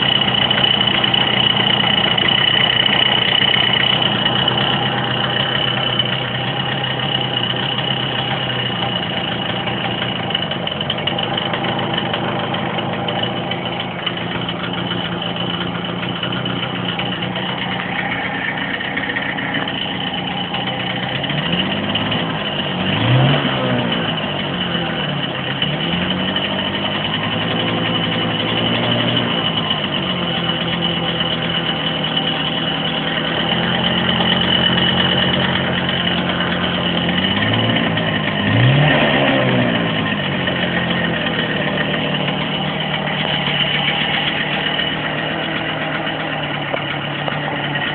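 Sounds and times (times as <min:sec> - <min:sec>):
moped engine idling and revving: 0:00.0 - 0:47.9.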